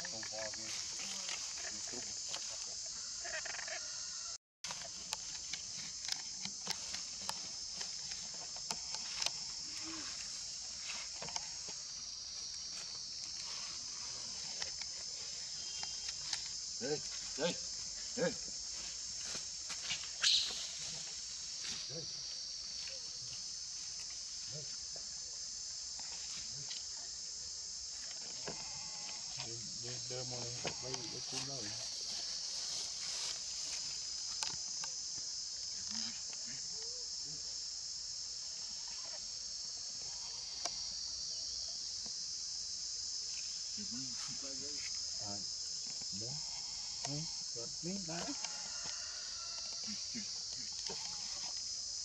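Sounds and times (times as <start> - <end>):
insect chorus drone: 0.0 - 52.0.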